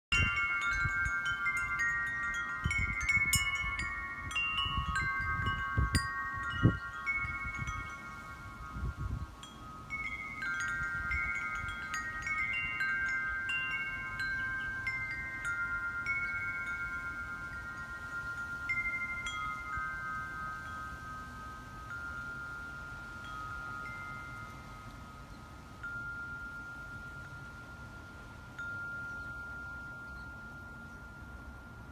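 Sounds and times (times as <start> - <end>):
wind chimes ringing: 0.1 - 31.9
wind rumble on microphone: 0.1 - 31.9.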